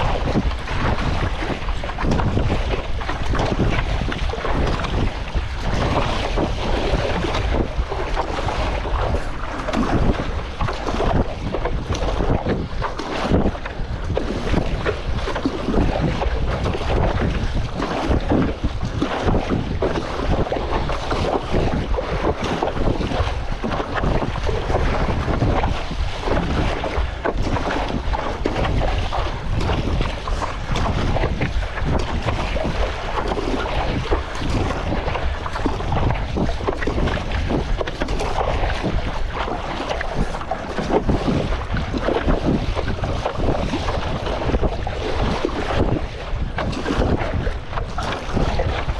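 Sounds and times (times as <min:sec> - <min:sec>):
sea water sloshing and splashing: 0:00.0 - 0:48.9
wind buffeting microphone: 0:00.0 - 0:48.9.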